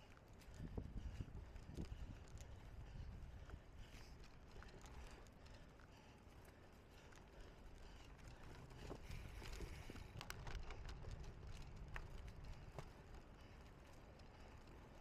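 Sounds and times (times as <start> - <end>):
bicycle clicks and rattles: 0.0 - 15.0
bicycle rumbling over rough ground: 0.0 - 15.0.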